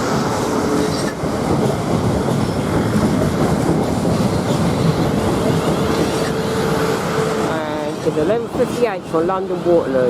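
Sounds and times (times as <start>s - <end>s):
train wheels rumbling and clacking: 0.0s - 10.0s.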